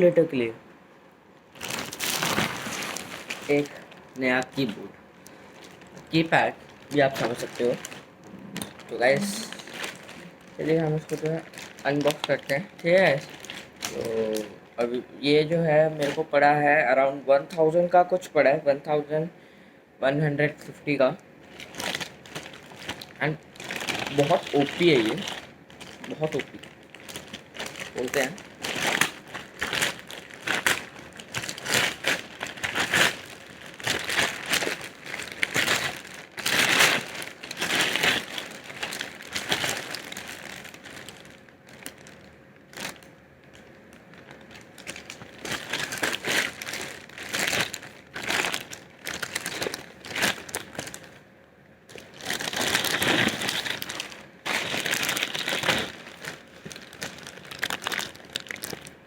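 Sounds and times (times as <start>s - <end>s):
packaging crinkling and rustling: 1.5s - 16.6s, 21.4s - 51.2s, 51.9s - 59.0s.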